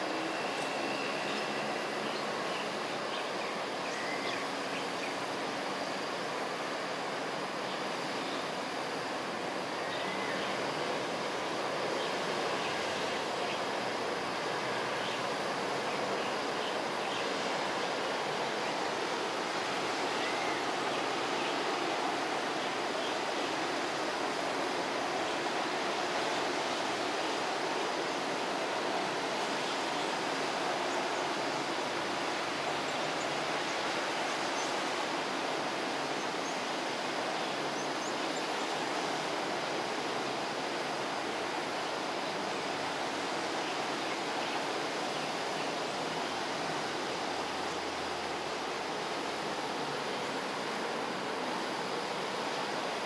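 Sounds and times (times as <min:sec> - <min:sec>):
outdoor ambient hiss: 0:00.0 - 0:53.0.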